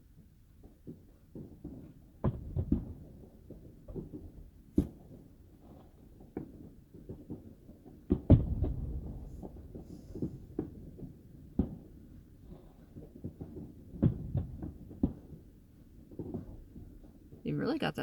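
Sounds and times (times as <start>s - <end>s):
muffled fireworks booms and cracks: 0.1s - 18.0s.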